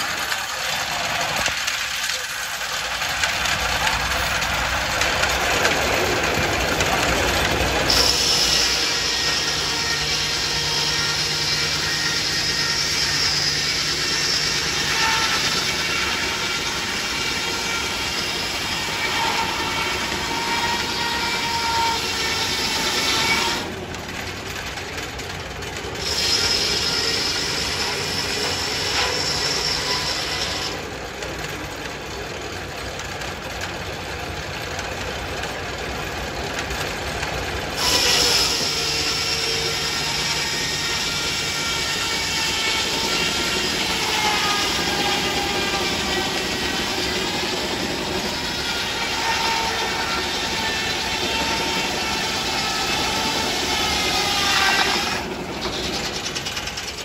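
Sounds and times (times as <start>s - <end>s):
circular saw cutting log: 0.0s - 57.0s
sawmill running: 0.0s - 57.0s.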